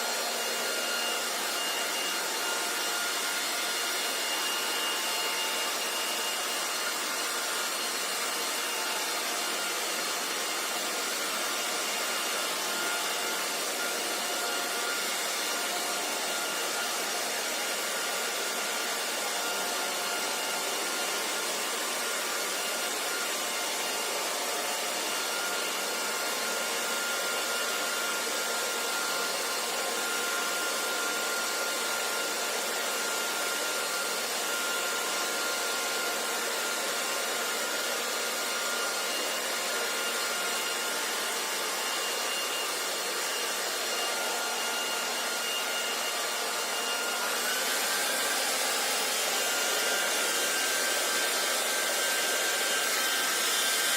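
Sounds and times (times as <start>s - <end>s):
hair dryer blowing air: 0.0s - 53.9s.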